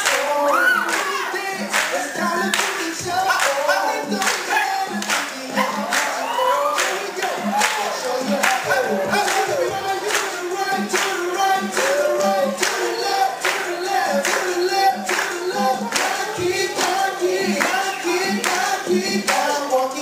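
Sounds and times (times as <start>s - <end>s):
dance music with steady beat: 0.0s - 20.0s
people singing: 0.0s - 20.0s.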